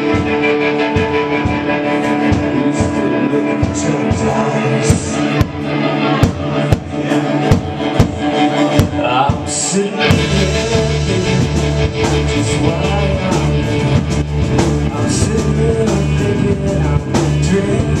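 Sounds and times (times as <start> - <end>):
drum kit: 0.0 - 18.0
electric bass: 0.0 - 18.0
electric guitars: 0.0 - 18.0.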